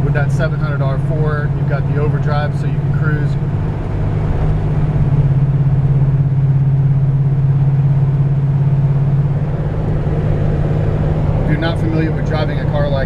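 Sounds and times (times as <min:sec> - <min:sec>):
car engine droning inside cabin: 0:00.0 - 0:13.0.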